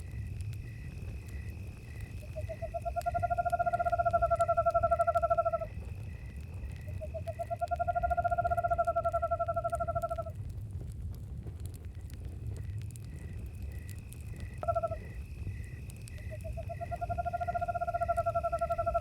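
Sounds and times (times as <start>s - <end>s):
high insect drone: 0.0s - 10.3s, 12.6s - 19.0s
crickets chirping: 0.0s - 10.5s, 11.8s - 19.0s
campfire crackling: 0.0s - 19.0s.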